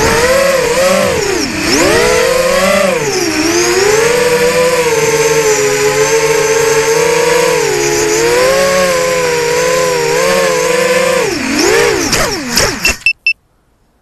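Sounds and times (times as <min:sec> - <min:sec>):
quadcopter motors whining: 0:00.0 - 0:13.1.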